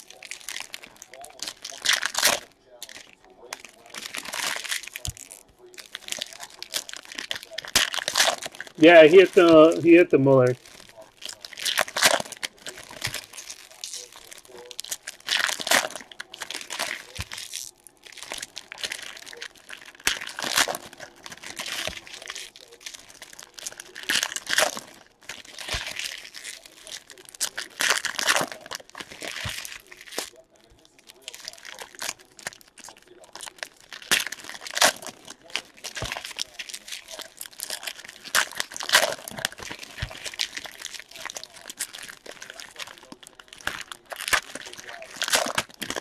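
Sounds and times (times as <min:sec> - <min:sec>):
foil wrappers crinkling: 0:00.0 - 0:46.0
packs being torn open: 0:00.0 - 0:46.0.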